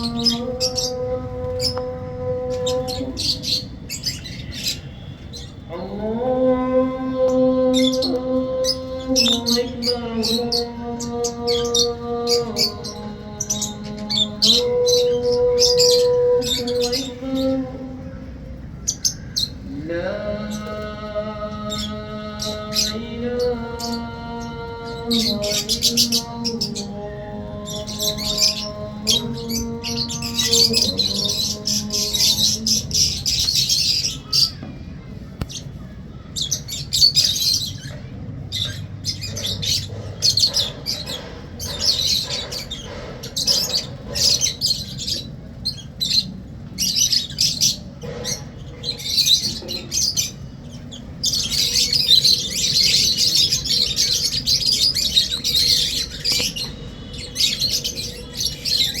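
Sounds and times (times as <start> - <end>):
parrots chirping and squawking: 0.0 - 5.7, 7.2 - 19.7, 20.4 - 59.0.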